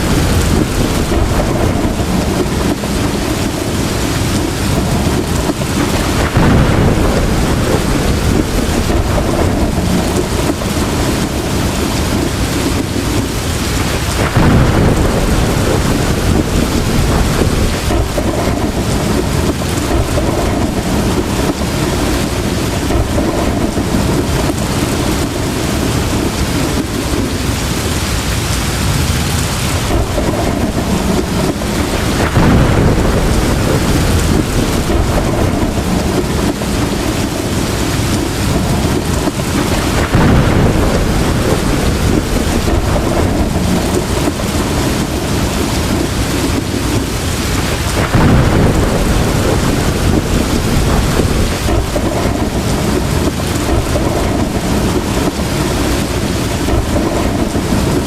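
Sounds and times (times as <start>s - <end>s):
heavy rain pouring: 0.0s - 58.0s
thunder: 0.0s - 58.0s.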